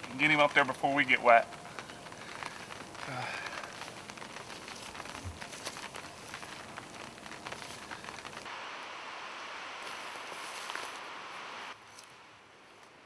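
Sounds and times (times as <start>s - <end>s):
light rain spattering: 0.0s - 13.0s
rustling: 0.0s - 13.0s.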